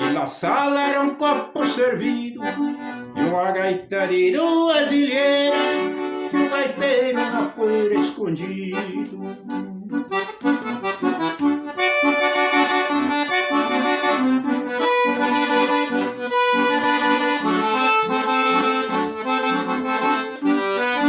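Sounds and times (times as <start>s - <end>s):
accordion folk melody: 0.0s - 21.0s.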